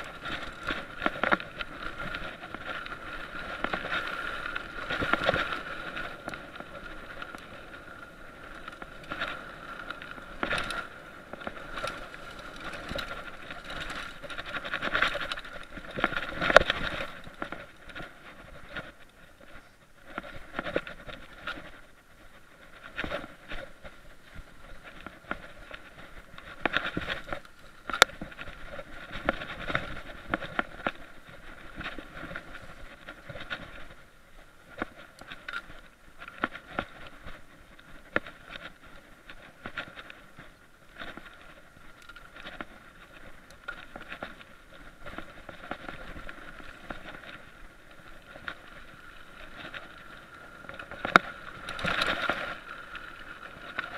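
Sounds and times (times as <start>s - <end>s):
muffled rush of riding noise: 0.0s - 53.9s.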